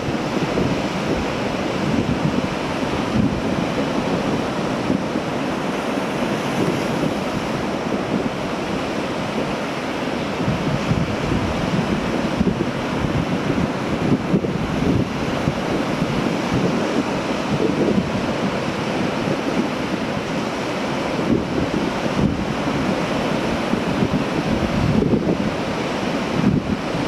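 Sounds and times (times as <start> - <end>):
sea waves washing: 0.0 - 27.0
wind buffeting microphone: 0.0 - 27.0.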